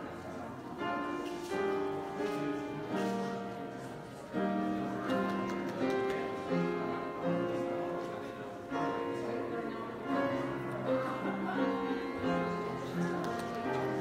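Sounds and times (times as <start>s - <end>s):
slow keyboard music: 0.0s - 14.0s.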